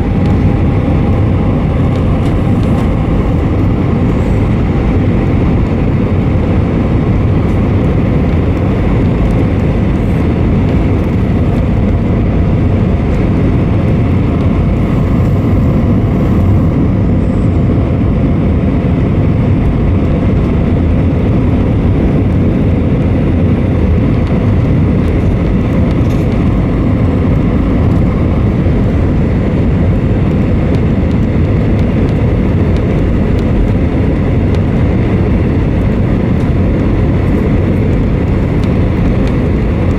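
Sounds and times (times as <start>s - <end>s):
aircraft engine rumble: 0.0s - 39.9s
rushing air: 0.0s - 39.9s.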